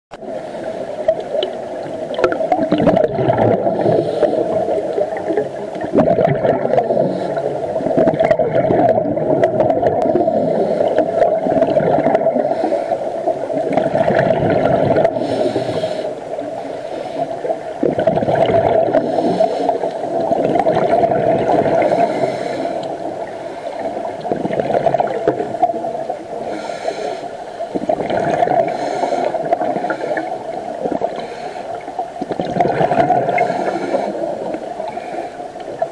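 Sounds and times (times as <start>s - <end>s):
muffled underwater rush: 0.1s - 35.9s
water gurgling: 0.1s - 35.9s.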